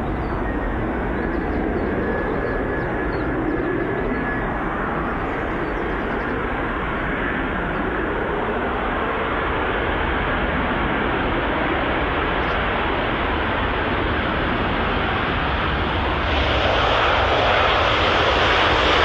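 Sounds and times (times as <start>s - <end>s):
jet engines of landing plane: 0.0s - 19.0s.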